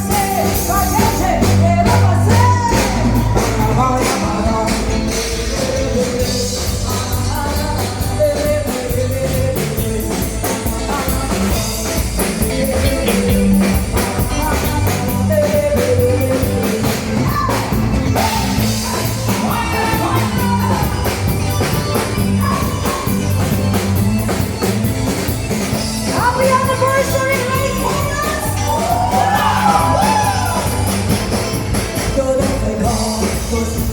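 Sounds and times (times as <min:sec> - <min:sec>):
rock music with singer: 0:00.0 - 0:33.9.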